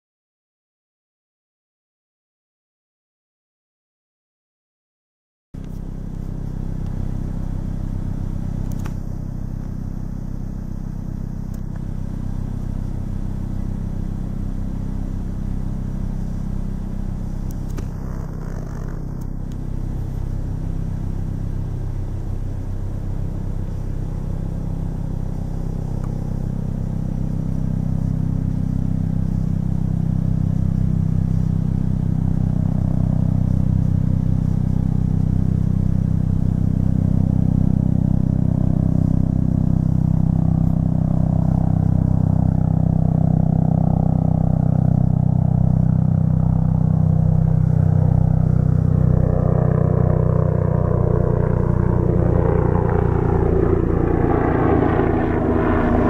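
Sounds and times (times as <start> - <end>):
low engine rumble: 5.6 - 56.0.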